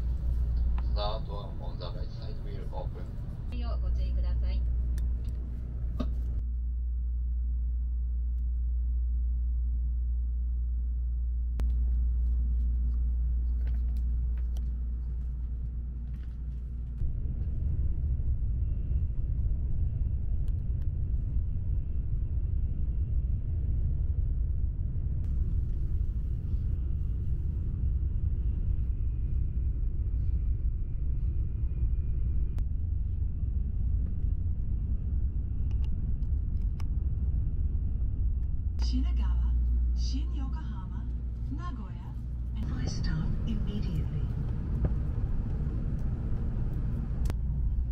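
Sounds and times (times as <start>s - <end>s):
train rumble inside cabin: 0.0s - 6.5s, 11.6s - 47.9s.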